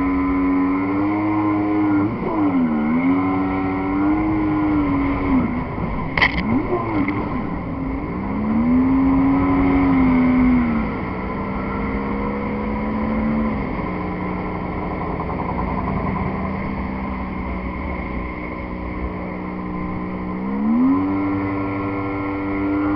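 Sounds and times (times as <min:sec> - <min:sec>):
jet ski engine running: 0:00.0 - 0:22.9.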